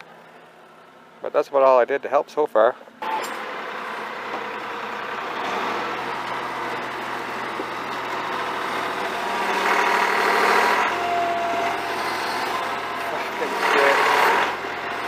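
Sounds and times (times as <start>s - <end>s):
tractor engine running: 2.6s - 15.0s.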